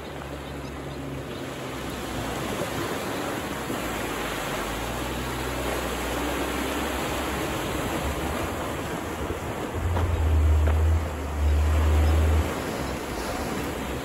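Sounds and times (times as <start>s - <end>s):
low engine hum: 0.0s - 14.0s
water rushing and splashing: 0.0s - 14.0s.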